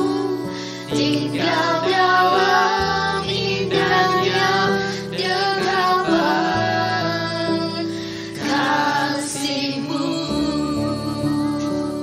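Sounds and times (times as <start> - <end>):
sustained instrumental chords: 0.0 - 12.0
woman singing: 0.0 - 12.0.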